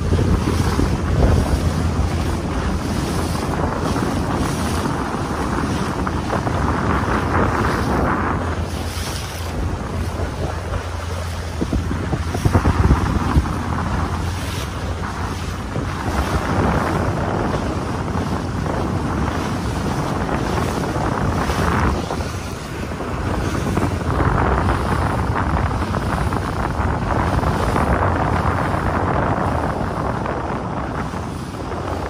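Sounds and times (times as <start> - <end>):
wash of water: 0.0 - 32.0
wind noise on microphone: 0.0 - 32.0.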